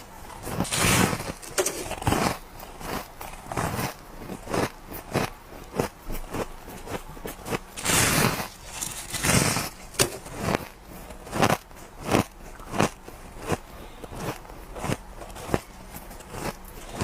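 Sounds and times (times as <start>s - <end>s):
person crunching ice: 0.0s - 17.0s.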